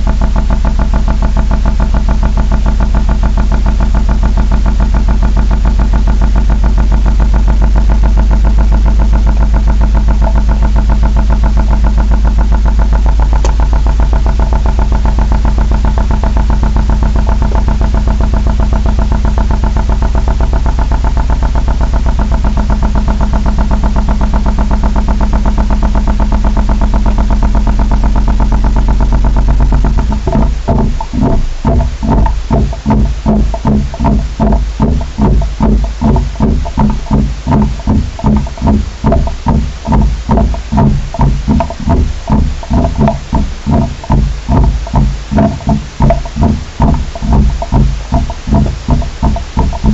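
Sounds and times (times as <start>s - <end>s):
loud mechanical drone: 0.0s - 49.9s
pulsing rhythmic sound: 0.0s - 49.9s.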